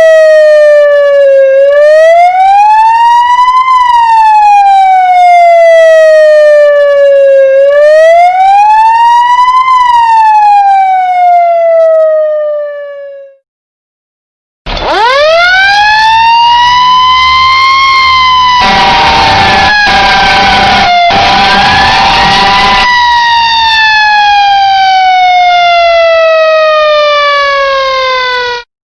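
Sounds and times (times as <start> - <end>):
fire truck siren winding up: 0.0 - 13.4, 14.7 - 28.7
lower steady siren tone: 0.0 - 13.4, 14.8 - 28.7
siren slow wail: 0.0 - 13.4, 14.7 - 28.7.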